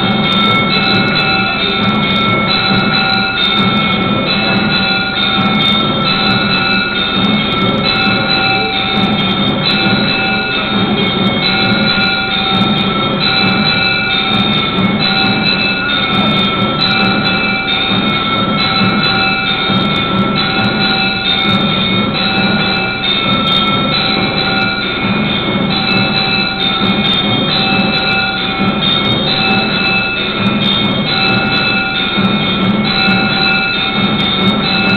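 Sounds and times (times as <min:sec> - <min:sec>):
steady drum-like pulse: 0:00.0 - 0:34.9
temple bells ringing: 0:00.0 - 0:34.9.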